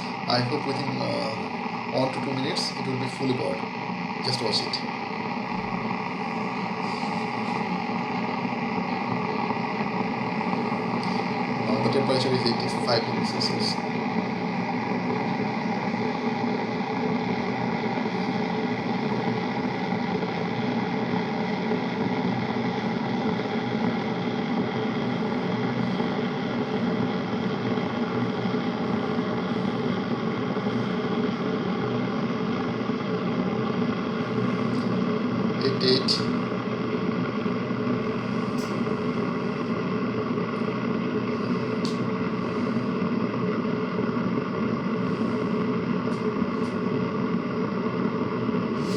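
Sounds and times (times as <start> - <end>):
electric kettle heating water: 0.0 - 48.9.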